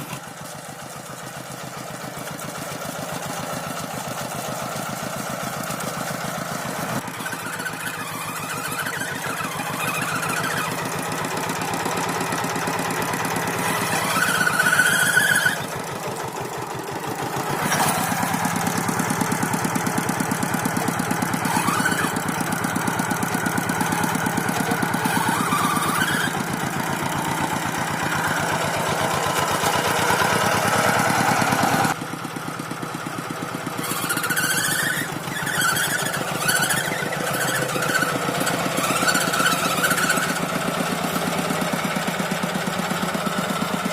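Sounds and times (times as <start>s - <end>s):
tractor engine chugging: 0.0s - 43.9s.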